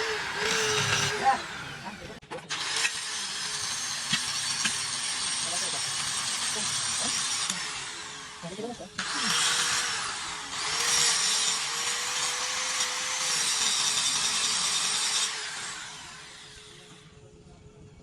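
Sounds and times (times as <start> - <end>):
power tool grinding: 0.0 - 17.1.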